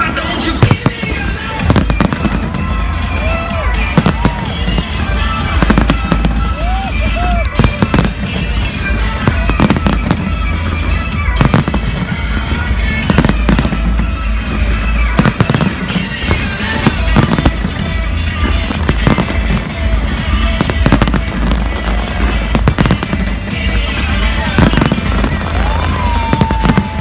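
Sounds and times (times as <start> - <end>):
fireworks exploding: 0.0 - 27.0
music playing: 0.0 - 27.0.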